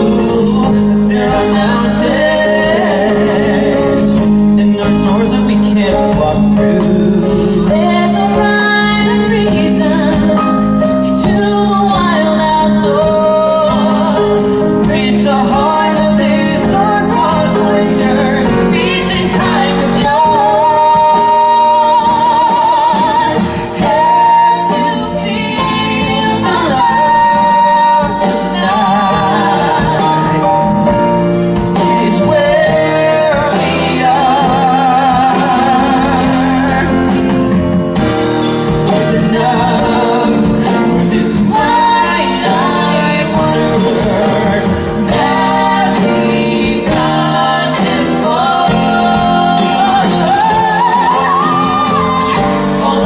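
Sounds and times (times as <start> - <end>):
congas: 0.0 - 53.0
drum kit: 0.0 - 53.0
live band playing: 0.0 - 53.0
man and woman singing duet: 0.0 - 53.0.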